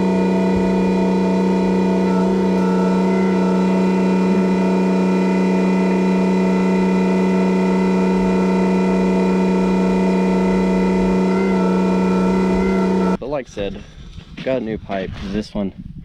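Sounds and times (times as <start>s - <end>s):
tractor engine droning: 0.0s - 13.2s.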